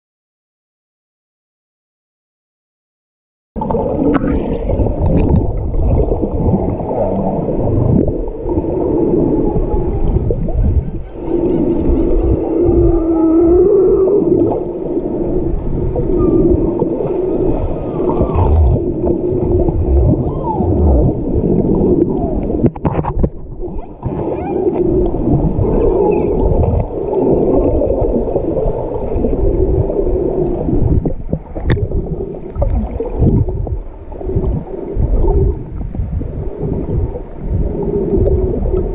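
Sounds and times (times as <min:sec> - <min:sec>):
whales calling underwater: 0:03.6 - 0:22.8, 0:23.6 - 0:38.9
low rumbling water noise: 0:03.6 - 0:38.9.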